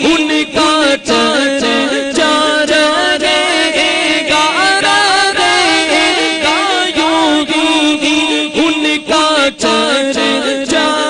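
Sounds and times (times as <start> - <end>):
voices chanting devotional song: 0.0 - 11.0.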